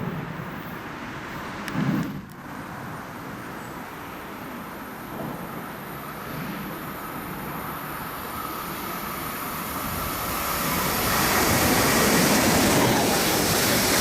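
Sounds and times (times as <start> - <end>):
train passing: 0.0 - 14.0.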